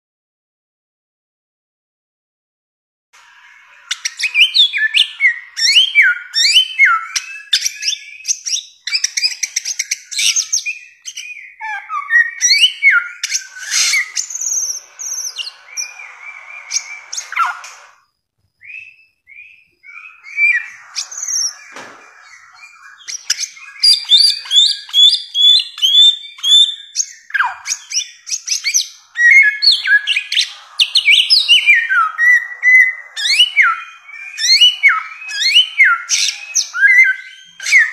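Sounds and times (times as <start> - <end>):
bird singing whistled notes: 3.2 - 37.9.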